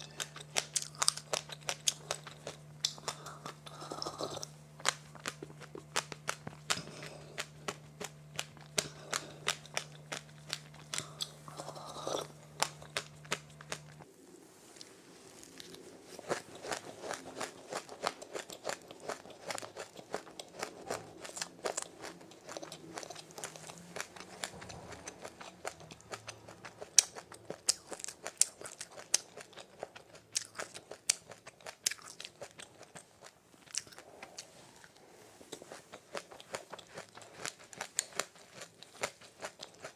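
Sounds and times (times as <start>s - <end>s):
chewing crunchy snack: 0.0s - 14.1s, 14.8s - 39.9s.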